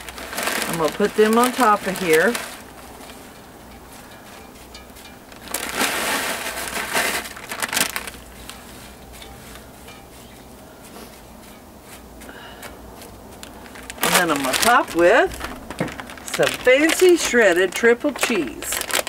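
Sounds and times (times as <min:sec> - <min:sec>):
tortilla chips crackling and crunching: 0:00.0 - 0:10.2, 0:11.1 - 0:19.0.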